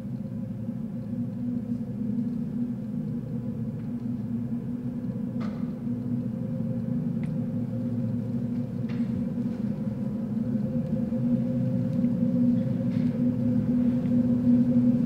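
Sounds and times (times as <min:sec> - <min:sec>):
low electronic drone: 0:00.0 - 0:15.0.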